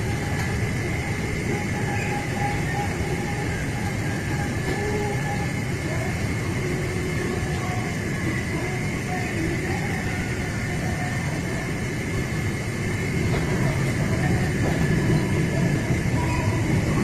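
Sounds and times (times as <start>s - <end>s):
steady low rumbling: 0.0s - 17.0s.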